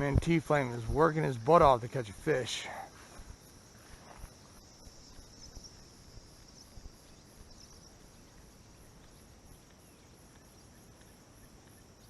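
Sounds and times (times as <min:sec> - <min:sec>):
insects buzzing: 0:00.0 - 0:12.0
pulsing insect chirp: 0:00.0 - 0:12.0.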